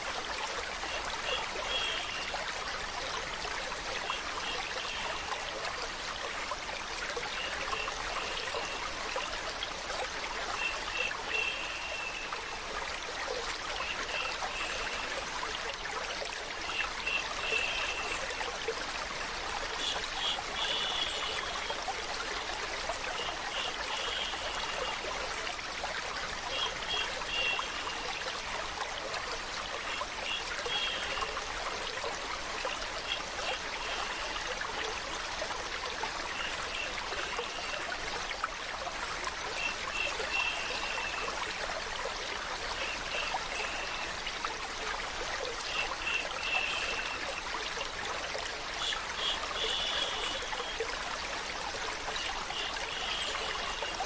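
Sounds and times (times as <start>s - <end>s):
water running and trickling: 0.0s - 54.0s
water splashing: 0.0s - 54.0s.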